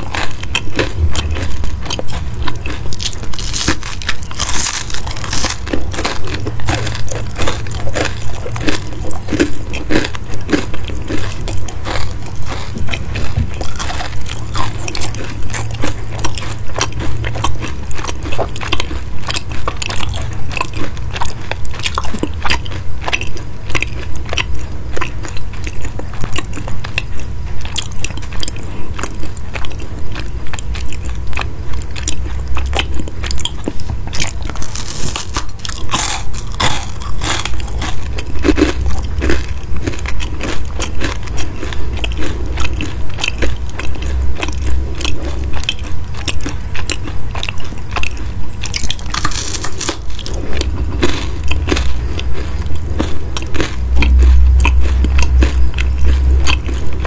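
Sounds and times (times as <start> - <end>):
crunchy chewing: 0.0 - 57.0
steady low hum: 0.0 - 57.0.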